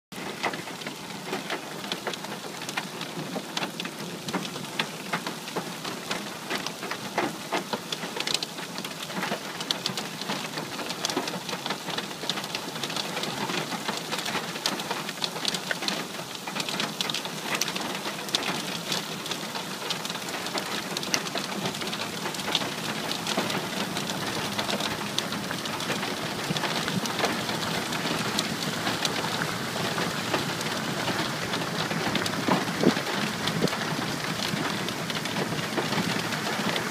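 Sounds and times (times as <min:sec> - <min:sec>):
raindrops tapping: 0:00.2 - 0:36.9.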